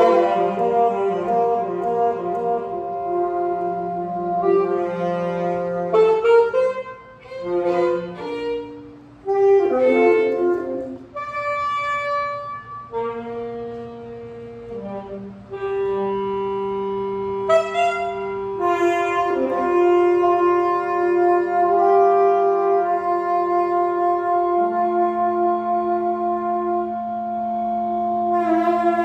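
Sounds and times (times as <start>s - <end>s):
saxophones improvising: 0.0s - 29.0s.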